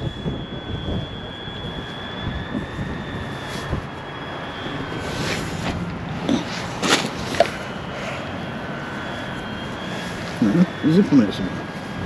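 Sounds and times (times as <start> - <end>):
fishing lines whistling in wind: 0.0 - 12.0
wind on microphone: 0.0 - 12.0.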